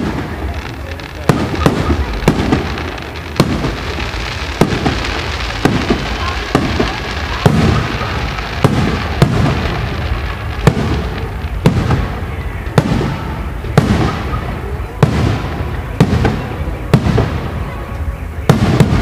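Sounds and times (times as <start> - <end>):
crackle of exploding stars: 0.0 - 19.0.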